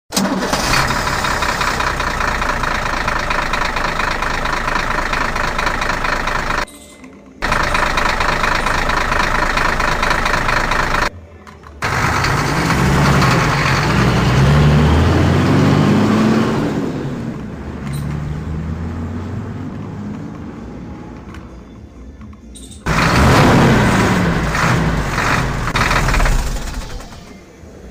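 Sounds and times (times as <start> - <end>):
tractor engine running and revving: 0.1 - 6.7, 7.4 - 11.2, 11.8 - 21.6, 22.8 - 27.9.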